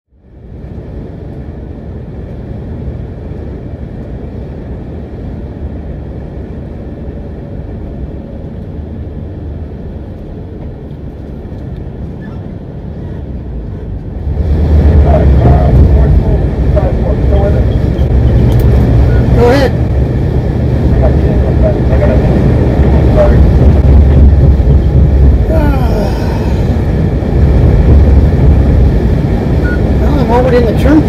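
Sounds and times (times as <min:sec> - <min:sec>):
coach road and engine rumble: 0:00.1 - 0:31.0.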